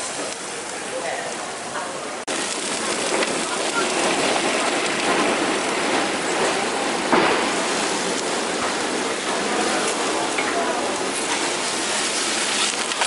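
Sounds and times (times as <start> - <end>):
liquid sizzling in a hot pan: 0.0 - 6.2, 7.2 - 13.0.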